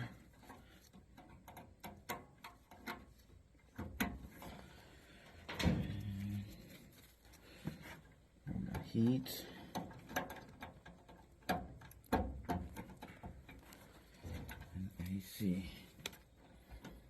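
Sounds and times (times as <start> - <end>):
wire connectors clicking and tapping: 0.0 - 17.0.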